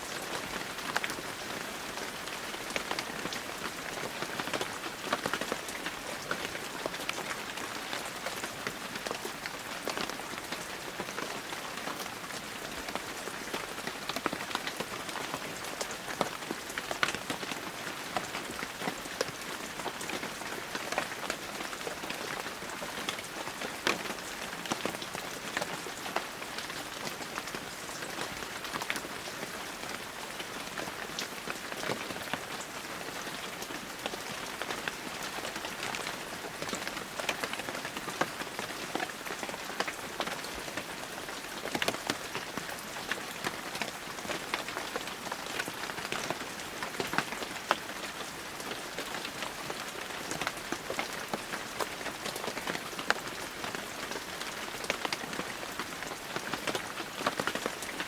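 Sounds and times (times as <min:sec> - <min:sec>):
heavy rain falling: 0:00.0 - 0:58.0
raindrops pattering on surfaces: 0:00.0 - 0:58.0.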